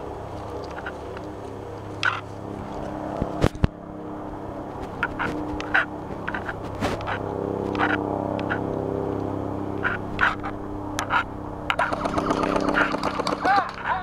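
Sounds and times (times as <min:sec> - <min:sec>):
engine-like hum: 0:00.0 - 0:14.0.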